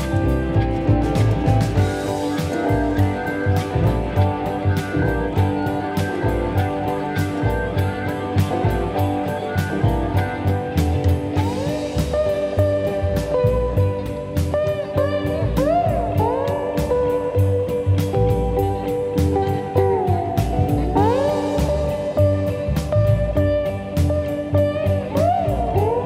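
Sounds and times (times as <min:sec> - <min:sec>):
blues electric guitar: 0:00.0 - 0:26.0
steady beat: 0:00.0 - 0:26.0.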